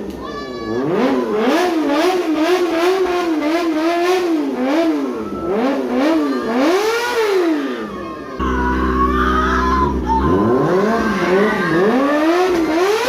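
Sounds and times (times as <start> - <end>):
motorcycle engine revving: 0.8 - 13.0.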